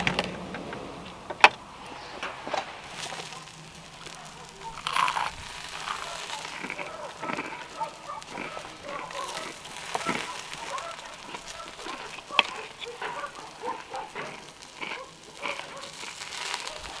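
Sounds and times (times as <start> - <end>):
embers crackling: 0.0 - 17.0.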